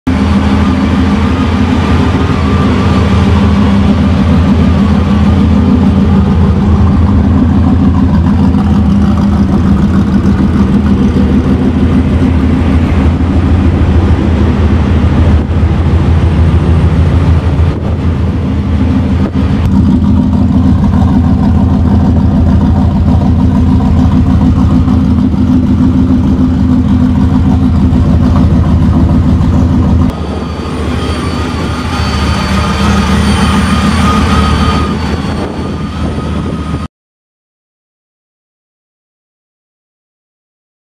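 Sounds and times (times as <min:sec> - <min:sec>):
thin high whine: 0:00.1 - 0:36.9
truck engine idling loudly: 0:00.1 - 0:36.9.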